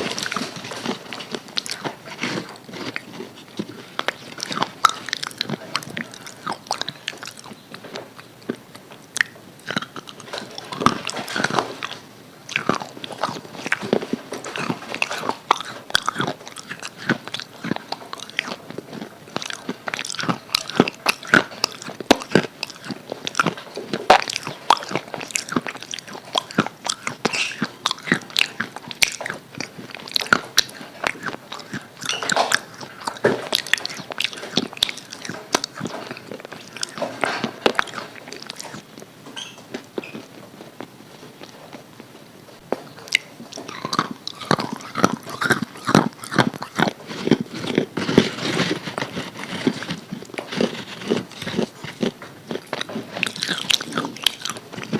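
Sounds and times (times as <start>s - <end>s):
person chewing crispy fried chicken: 0.0s - 54.9s.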